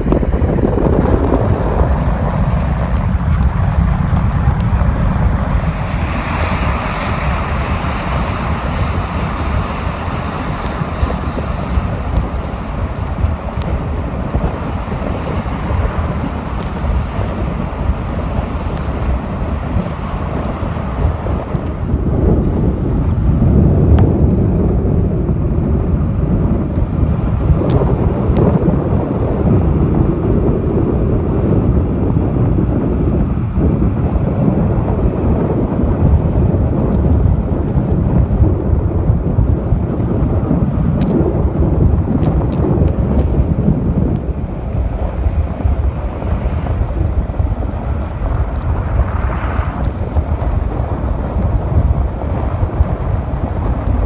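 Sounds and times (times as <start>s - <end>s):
car road noise on wet road: 0.0s - 54.0s
wind buffeting microphone: 0.0s - 54.0s.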